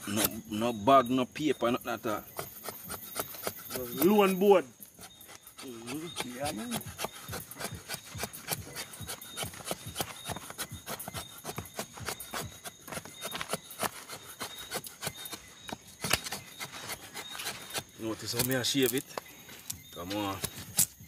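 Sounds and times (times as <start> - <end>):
blade scraping wood: 1.8 - 21.0.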